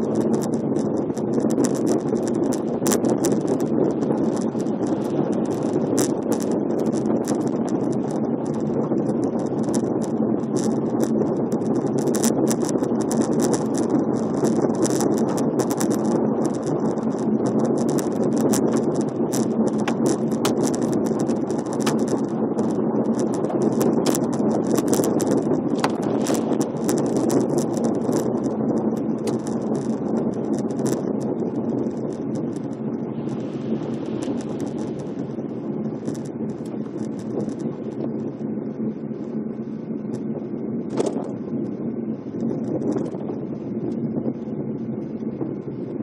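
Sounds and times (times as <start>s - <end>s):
sharp ticks and clicks: 0.0s - 38.4s, 40.9s - 41.4s, 42.4s - 43.2s
car road and engine noise: 0.2s - 43.8s.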